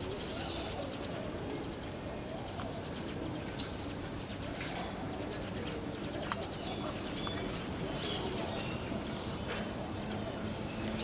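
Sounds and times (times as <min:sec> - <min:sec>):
low background noise: 0:00.0 - 0:11.0
pigeons cooing: 0:00.0 - 0:11.0.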